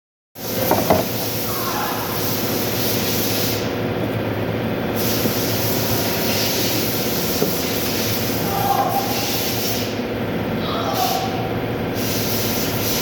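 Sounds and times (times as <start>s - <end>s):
cooling fan whooshing: 0.4s - 13.0s.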